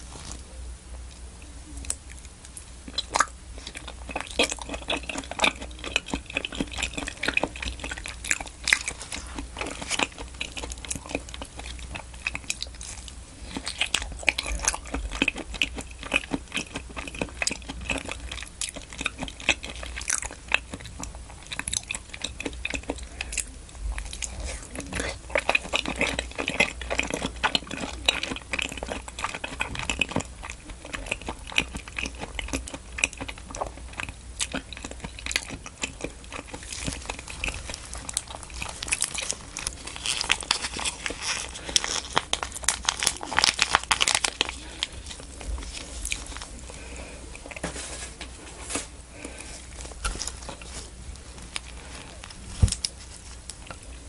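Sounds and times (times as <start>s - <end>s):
chewing with wet mouth clicks: 1.1s - 47.6s.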